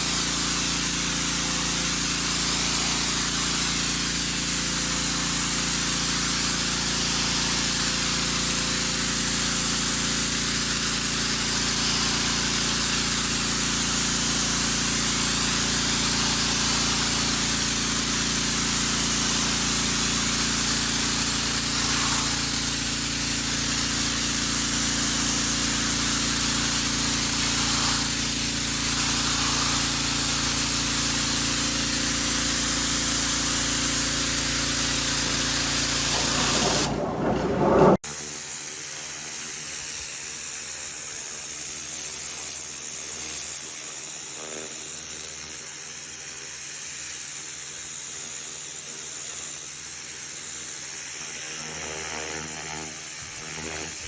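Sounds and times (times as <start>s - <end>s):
pressure washer spraying: 0.0s - 54.0s.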